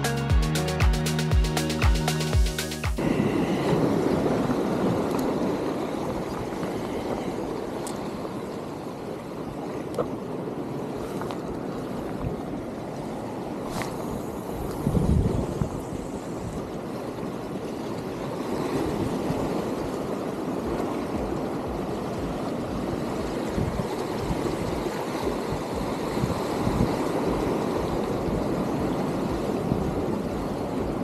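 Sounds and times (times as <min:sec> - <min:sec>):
small waves breaking on rocks: 0:03.0 - 0:31.0
wind buffeting microphone: 0:03.0 - 0:31.0.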